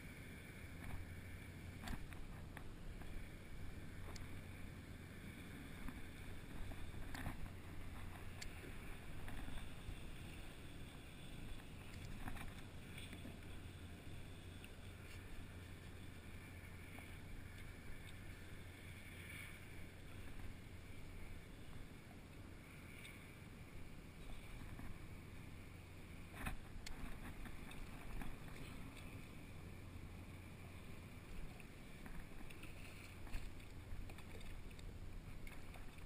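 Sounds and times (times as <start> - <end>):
steady low rumble: 0.0 - 36.0
water lapping around kayak: 0.0 - 36.0.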